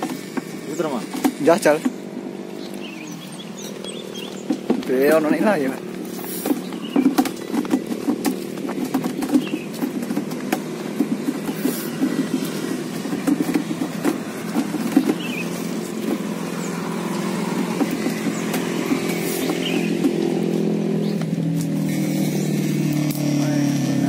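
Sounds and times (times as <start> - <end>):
footsteps on gravel: 0.0 - 24.0.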